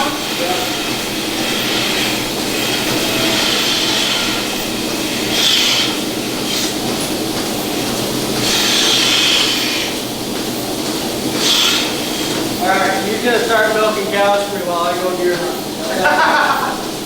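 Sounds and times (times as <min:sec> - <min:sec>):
steady machinery noise: 0:00.0 - 0:17.0.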